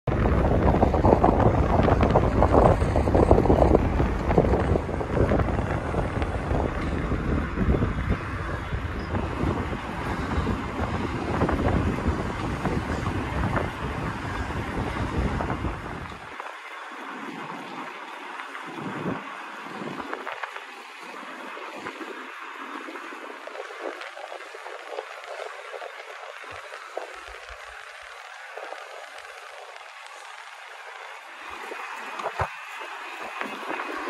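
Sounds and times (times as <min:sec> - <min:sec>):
wind buffeting microphone: 0:00.1 - 0:34.0.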